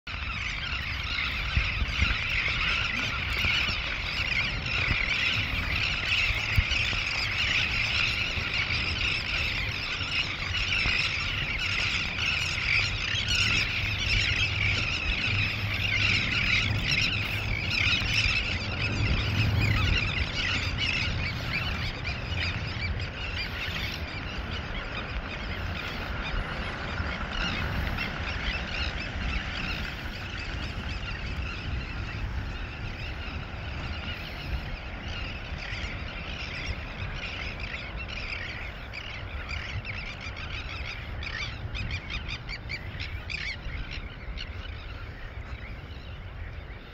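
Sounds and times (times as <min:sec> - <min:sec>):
seabirds calling: 0:00.1 - 0:46.9
wind on microphone: 0:00.1 - 0:46.9.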